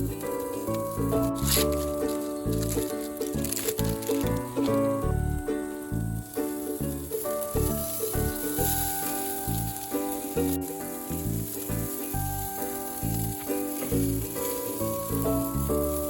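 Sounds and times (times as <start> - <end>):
background music with bass: 0.0 - 16.0
burger patty sizzling: 0.0 - 16.0.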